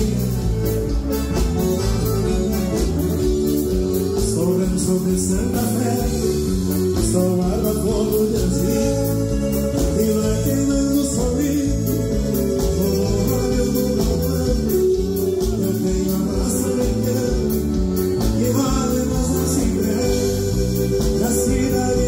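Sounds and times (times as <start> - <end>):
accordion notes: 0.0 - 22.0
repeating bass line: 0.0 - 22.0.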